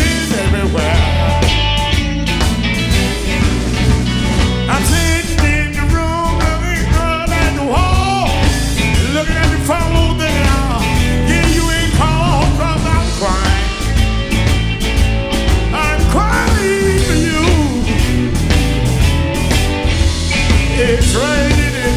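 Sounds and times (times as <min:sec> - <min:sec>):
bass guitar: 0:00.0 - 0:21.9
drum kit: 0:00.0 - 0:21.9
electric guitars bending notes: 0:00.0 - 0:21.9.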